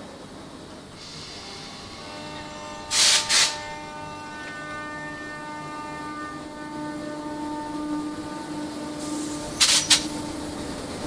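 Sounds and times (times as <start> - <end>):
train hum of held tones: 0.0 - 11.0
train hissing: 0.9 - 11.0.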